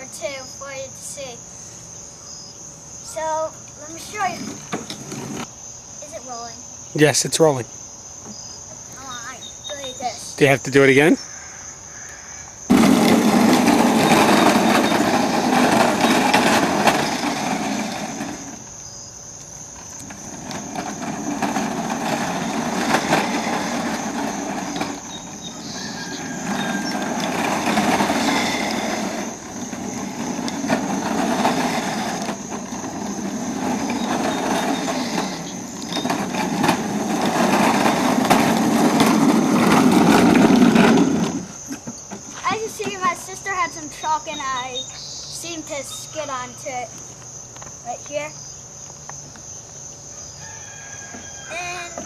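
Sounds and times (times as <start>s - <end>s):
crickets chirping: 0.0s - 52.0s
kart wheels grinding on asphalt: 0.0s - 52.0s.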